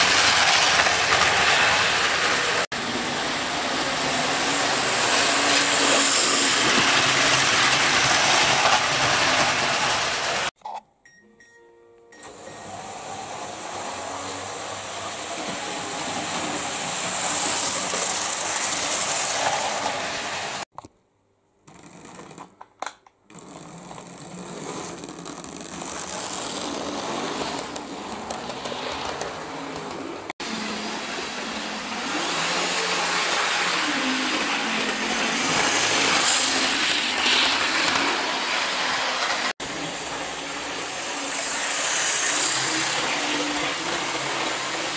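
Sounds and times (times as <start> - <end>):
model trains whirring on track: 0.0 - 10.5, 12.3 - 20.7, 23.3 - 44.9.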